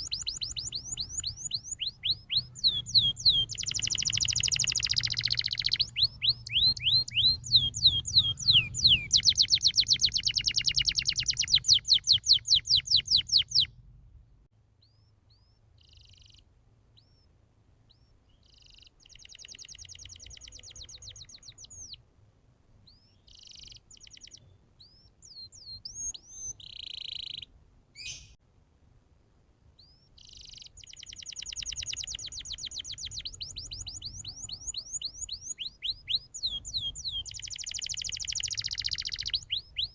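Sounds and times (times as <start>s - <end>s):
canary singing trills: 0.0s - 13.8s, 14.8s - 17.3s, 17.9s - 22.0s, 22.8s - 28.4s, 29.8s - 39.9s.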